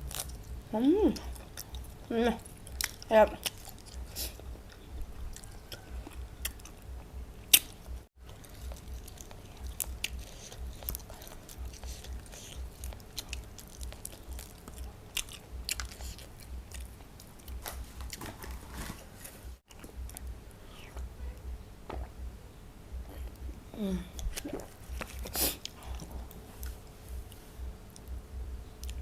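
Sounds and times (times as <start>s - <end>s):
person chewing crunchy food: 0.0s - 21.1s, 23.0s - 28.2s.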